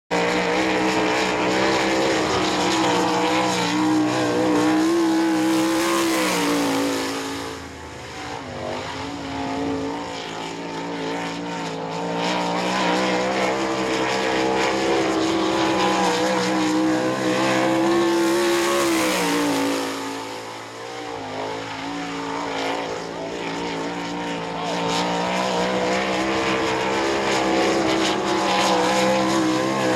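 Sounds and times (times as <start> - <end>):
race car engine at full throttle: 0.1 - 29.9.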